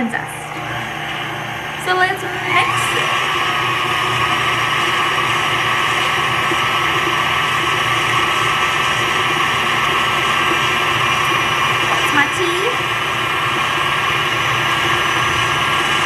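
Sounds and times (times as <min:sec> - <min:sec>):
stand mixer motor whine: 0:00.0 - 0:16.0.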